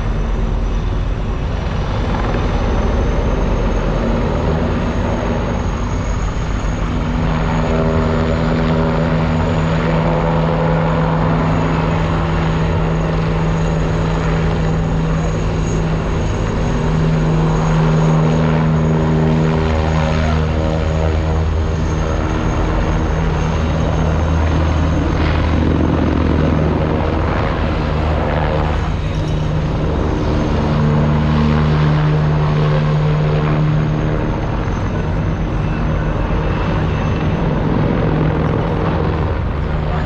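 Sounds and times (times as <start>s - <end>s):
helicopter flying over: 0.0s - 40.0s.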